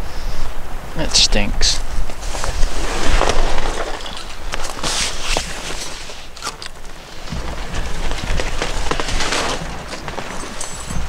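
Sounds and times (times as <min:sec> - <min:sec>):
wind buffeting microphone: 0:00.0 - 0:11.0
fabric rustling and crinkling: 0:02.1 - 0:11.0.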